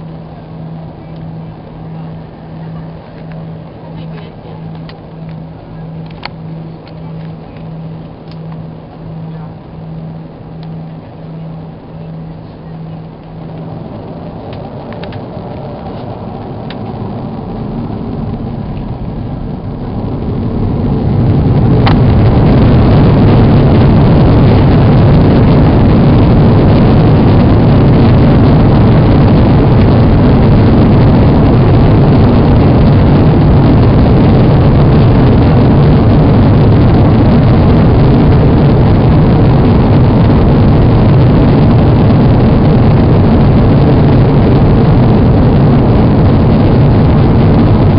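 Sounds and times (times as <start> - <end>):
jet engines spooling up: 0.0 - 47.9.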